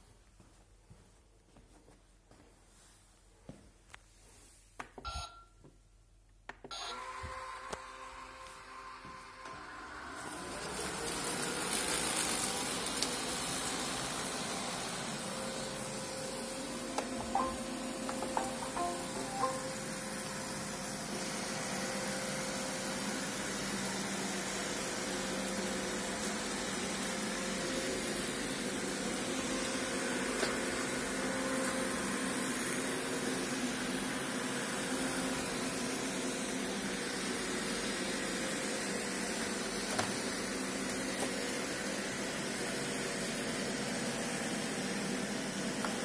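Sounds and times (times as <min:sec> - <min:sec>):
robot vacuum humming: 0:06.8 - 0:46.0.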